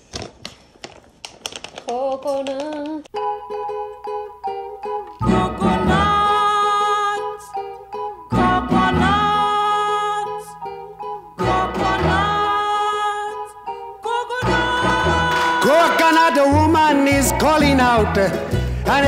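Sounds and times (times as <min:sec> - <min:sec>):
plucked ukulele music: 0:03.2 - 0:19.0.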